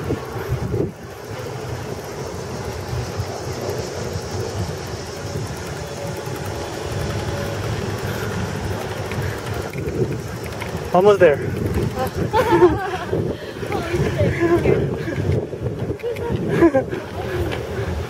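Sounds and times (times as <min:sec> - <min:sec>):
bicycle rolling on paved road: 0:00.0 - 0:18.0
wind buffeting microphone: 0:00.0 - 0:18.0.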